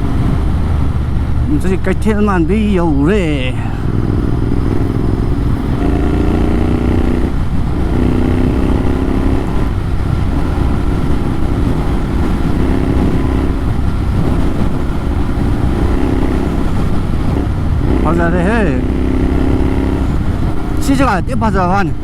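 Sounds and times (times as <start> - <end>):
loud motorcycle exhaust: 0.0 - 22.0.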